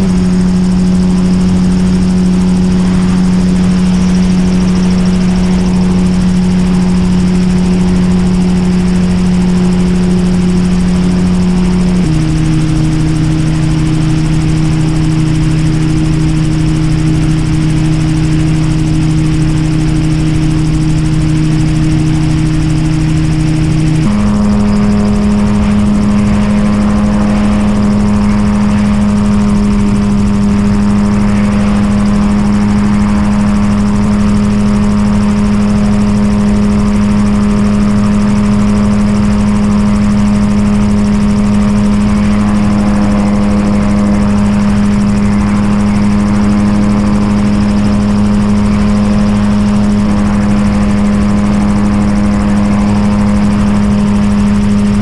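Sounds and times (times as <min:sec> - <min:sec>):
aircraft engine and propeller drone: 0:00.0 - 0:55.0
rushing wind noise: 0:00.0 - 0:55.0.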